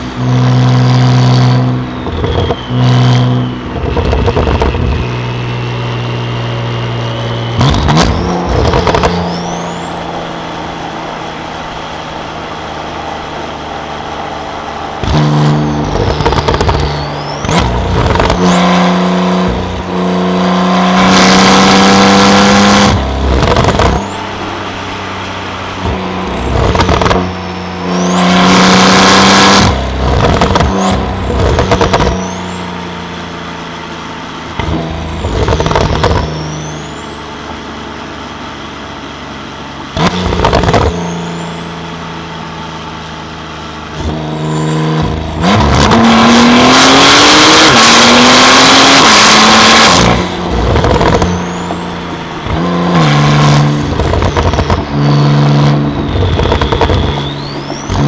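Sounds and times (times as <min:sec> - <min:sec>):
car cruising on highway: 0:00.0 - 0:58.0
car engine accelerating: 0:00.0 - 0:58.0
high turbo whine: 0:00.0 - 0:58.0.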